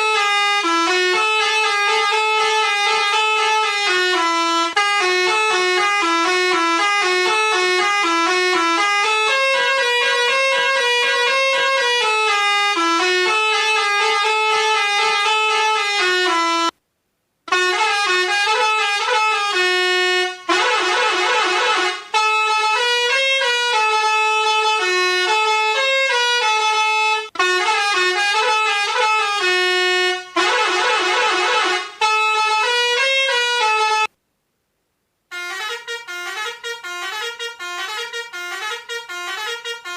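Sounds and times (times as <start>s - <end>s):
bus horn playing a melody: 0.0s - 16.7s, 17.5s - 34.2s, 35.3s - 39.9s.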